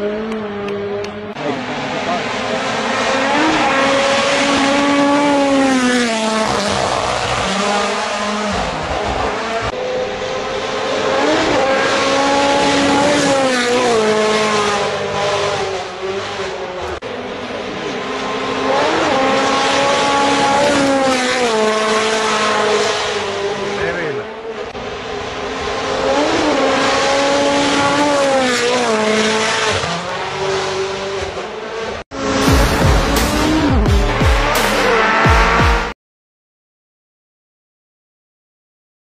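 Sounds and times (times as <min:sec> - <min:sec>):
rally car engines revving: 0:00.0 - 0:36.0.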